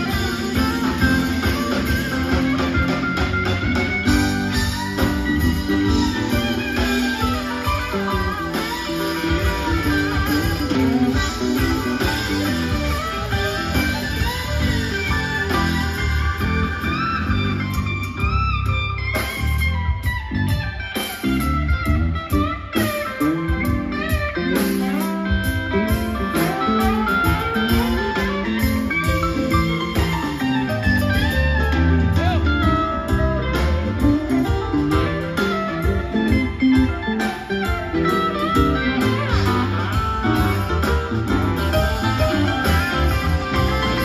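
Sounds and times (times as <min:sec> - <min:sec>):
electric guitar lead: 0:00.0 - 0:44.0
live rock band: 0:00.0 - 0:44.0.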